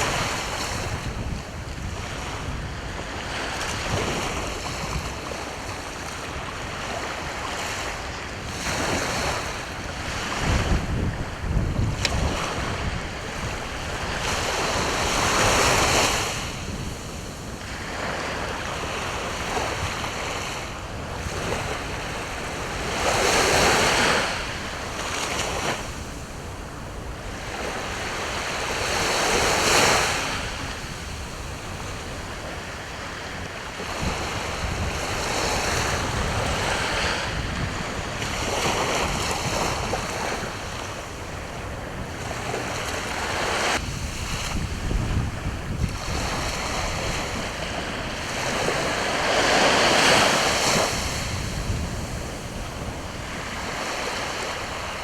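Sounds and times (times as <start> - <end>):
sea waves breaking on shore: 0.0 - 55.0
wind rumbling on microphone: 0.0 - 55.0.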